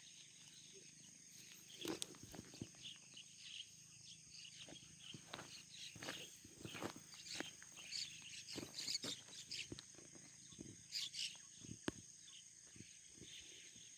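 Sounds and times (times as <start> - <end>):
insect chirps: 0.0 - 13.9.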